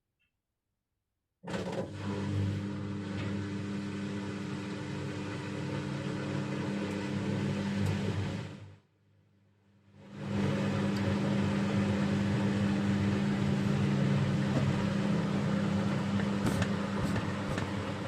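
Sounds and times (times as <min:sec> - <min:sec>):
washing machine running: 0:01.4 - 0:08.9, 0:09.9 - 0:18.0.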